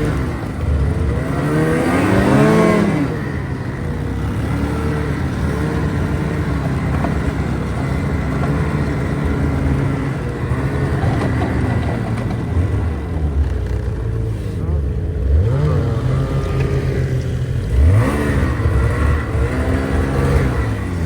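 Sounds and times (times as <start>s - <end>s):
road and wind noise: 0.0s - 21.0s
vehicle engine running: 0.0s - 21.0s.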